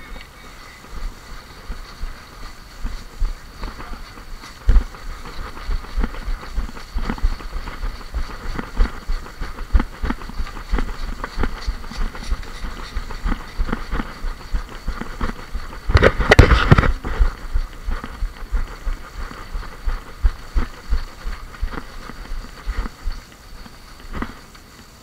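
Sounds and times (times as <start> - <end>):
footsteps on ground: 0.0 - 25.0
loud rustling: 0.0 - 25.0.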